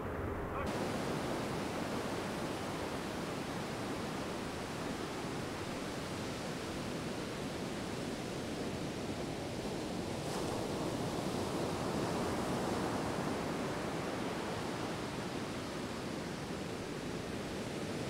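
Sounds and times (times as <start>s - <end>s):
waves rushing on beach: 0.6s - 18.0s.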